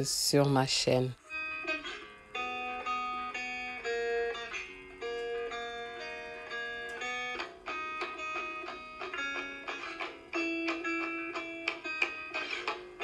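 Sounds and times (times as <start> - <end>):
plucked guitar notes: 1.3 - 13.0.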